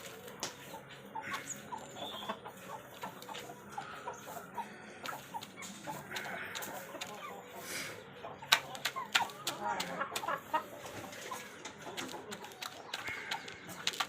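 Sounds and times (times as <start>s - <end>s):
chicken clucking: 0.0s - 14.0s.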